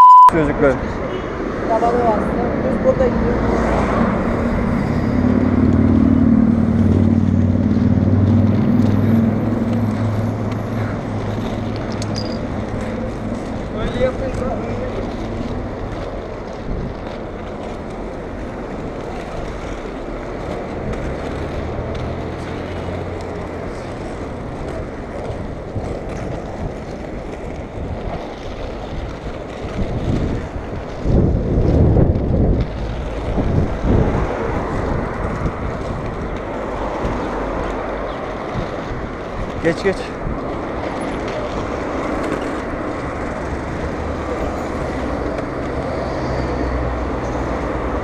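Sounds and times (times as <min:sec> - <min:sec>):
city traffic: 0:00.0 - 0:48.0
inline skates rolling on asphalt: 0:00.3 - 0:48.0
wind rushing over microphone: 0:00.4 - 0:21.9, 0:22.7 - 0:48.0
low engine hum: 0:03.2 - 0:48.0.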